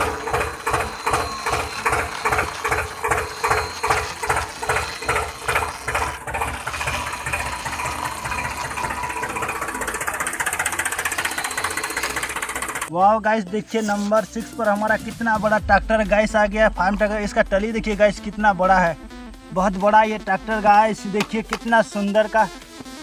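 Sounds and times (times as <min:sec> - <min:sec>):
engine chugging: 0:00.0 - 0:23.0.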